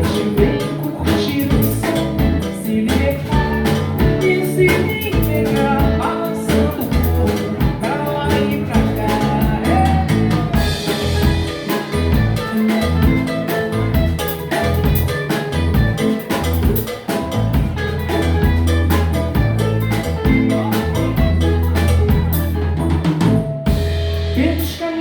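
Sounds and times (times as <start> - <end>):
acoustic guitar: 0.0 - 25.0
bass guitar: 0.0 - 25.0
drum kit: 0.0 - 25.0.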